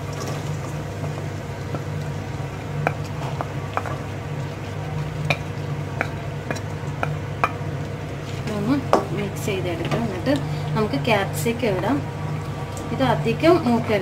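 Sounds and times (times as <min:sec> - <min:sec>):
onions sizzling in oil: 0:00.0 - 0:14.0
steady low hum: 0:00.0 - 0:14.0.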